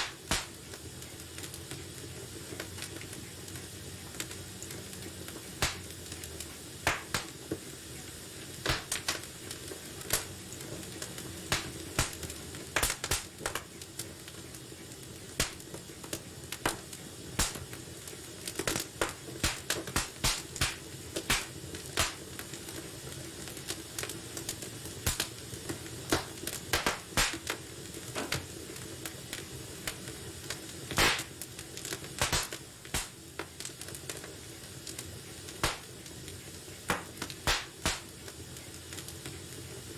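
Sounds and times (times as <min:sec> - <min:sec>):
fire crackles and pops: 0:00.0 - 0:39.9
wood fire hissing and rumbling: 0:00.0 - 0:39.9.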